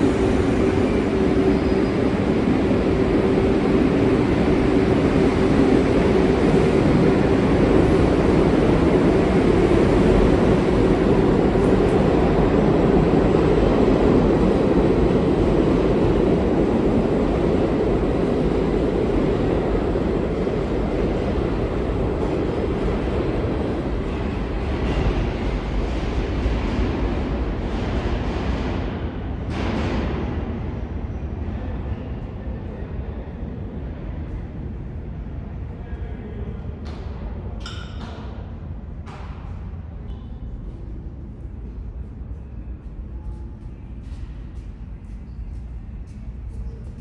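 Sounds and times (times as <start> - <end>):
subway train rumbling: 0.0 - 47.0.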